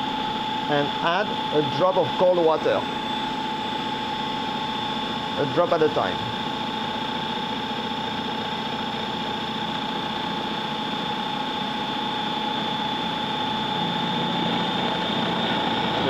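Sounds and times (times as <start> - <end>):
blade churning dough: 0.0 - 16.0
food processor motor whine: 0.0 - 16.0.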